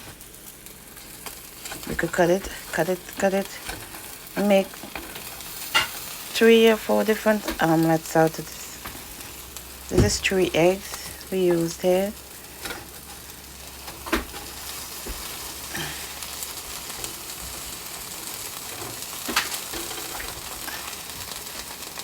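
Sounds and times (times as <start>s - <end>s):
omelette sizzling in a frying pan: 0.0s - 22.0s.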